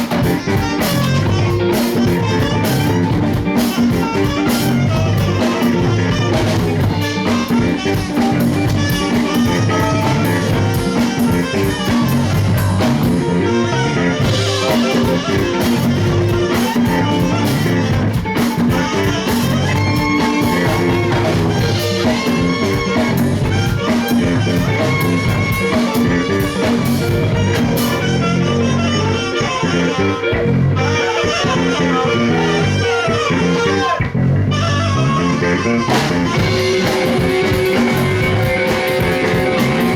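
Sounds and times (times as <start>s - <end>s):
drum kit: 0.0s - 31.8s, 34.6s - 39.9s
electric guitar playing: 0.0s - 39.9s.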